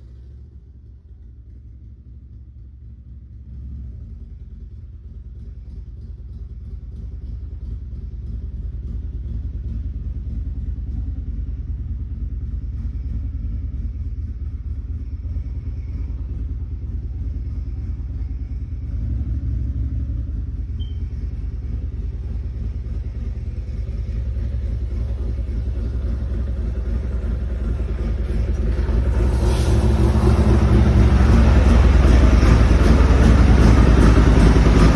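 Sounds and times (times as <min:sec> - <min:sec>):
motorcycle engine rumbling: 0:00.0 - 0:34.9.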